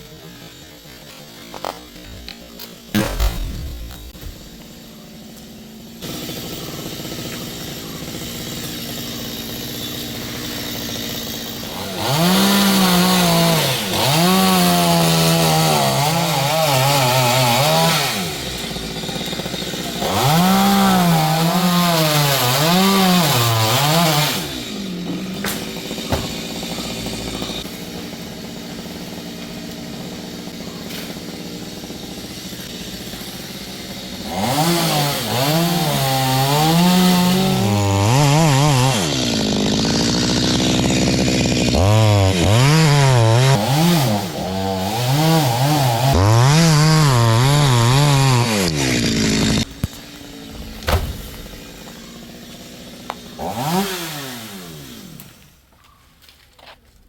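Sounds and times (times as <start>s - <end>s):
chainsaw idling: 0.0s - 55.7s
chainsaw cutting wood: 0.1s - 55.7s.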